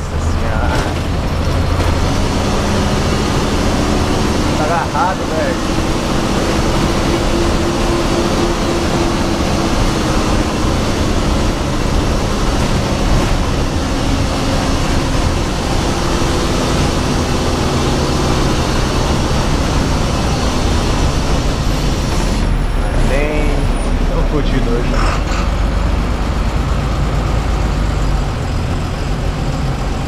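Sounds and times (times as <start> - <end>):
bus engine droning: 0.0 - 30.0
road noise: 0.0 - 30.0.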